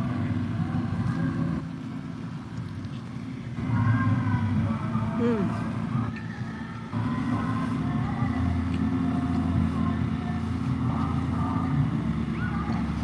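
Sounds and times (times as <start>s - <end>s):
faint distant voices: 0.0s - 13.0s
motor humming: 0.0s - 13.0s.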